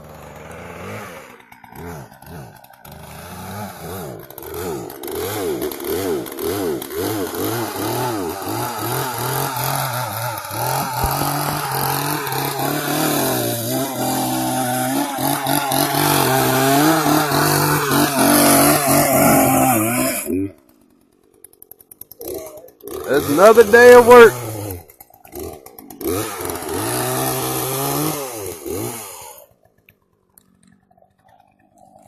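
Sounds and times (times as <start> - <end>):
chainsaw engine revving: 0.0 - 29.7.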